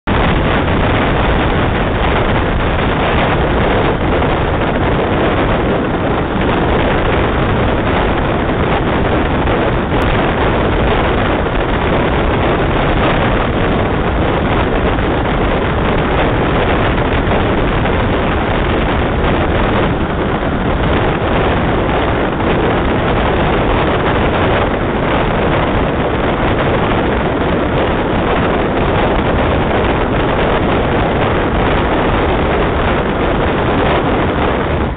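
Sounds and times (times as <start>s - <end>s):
wind rushing on microphone: 0.0s - 34.9s.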